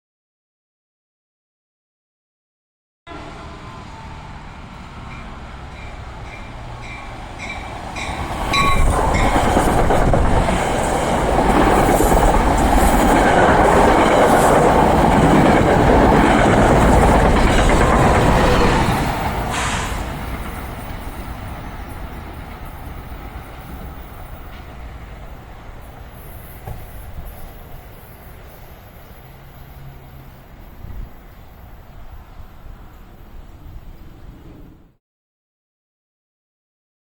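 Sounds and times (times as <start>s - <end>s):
train passing at speed: 3.1s - 35.0s.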